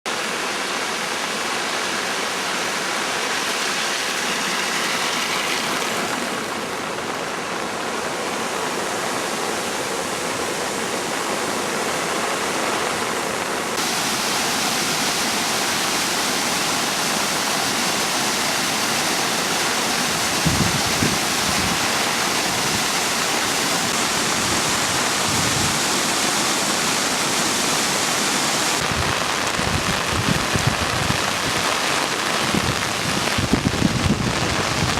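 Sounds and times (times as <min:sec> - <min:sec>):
rushing stream water: 0:00.1 - 0:34.9.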